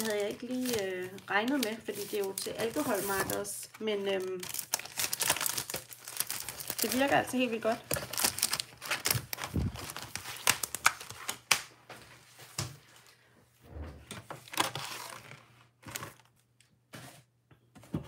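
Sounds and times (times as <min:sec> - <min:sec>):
packaging crinkling and rustling: 0:00.0 - 0:12.8, 0:14.1 - 0:17.2.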